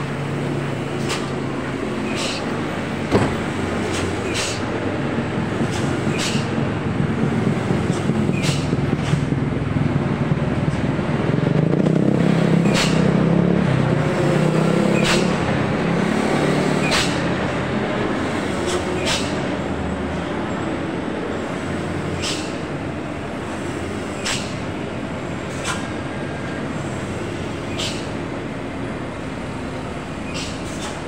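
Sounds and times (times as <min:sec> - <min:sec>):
drone of trucks and motorbikes: 0:00.0 - 0:31.0
truck diesel engine passing: 0:00.0 - 0:31.0.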